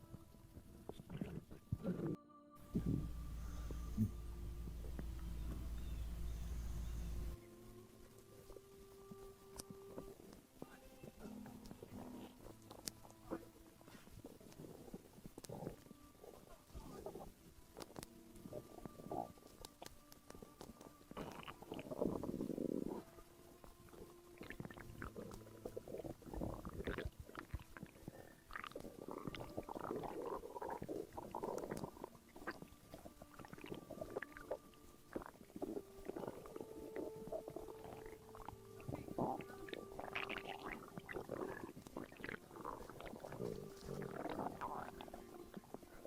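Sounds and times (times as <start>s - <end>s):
stomach gurgling: 0.0s - 4.2s, 8.2s - 46.0s.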